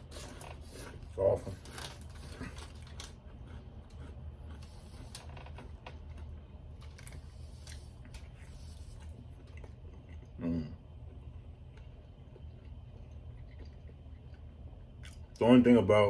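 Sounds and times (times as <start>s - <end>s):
close-miked chewing: 0.0s - 10.4s, 11.0s - 15.4s
steady low hum: 0.0s - 16.0s.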